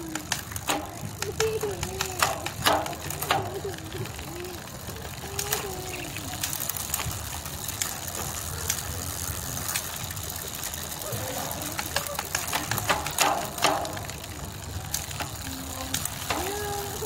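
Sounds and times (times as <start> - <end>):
bicycle chain whirring: 0.0 - 17.0
bicycle drivetrain clicks: 0.0 - 17.0.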